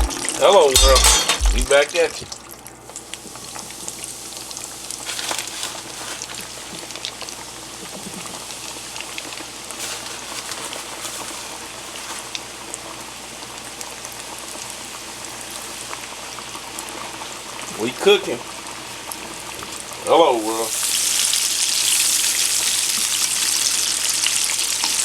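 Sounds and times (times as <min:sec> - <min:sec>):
fish frying in hot oil: 0:00.0 - 0:25.0.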